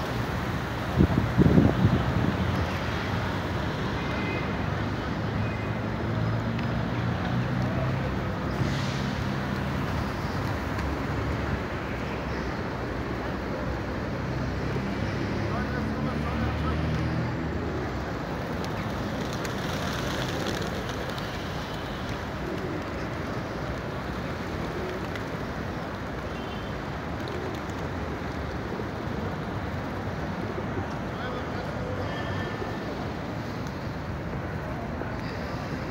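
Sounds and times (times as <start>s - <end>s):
city traffic rumble: 0.0s - 35.9s.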